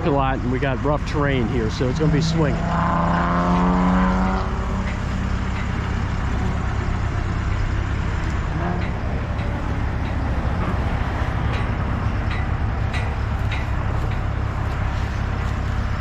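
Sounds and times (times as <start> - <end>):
machine engine running under load: 0.0 - 16.0.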